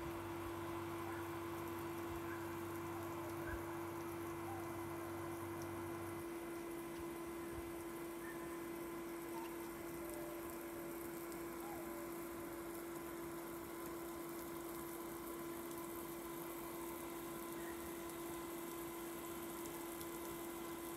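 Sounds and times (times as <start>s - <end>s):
water pump hum: 0.0s - 20.9s.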